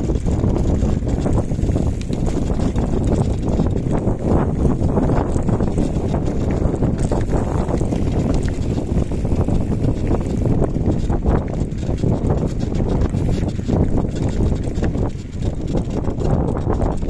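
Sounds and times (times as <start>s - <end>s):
bike tyres on gravel: 0.0s - 17.0s
wind buffeting microphone: 0.0s - 17.0s.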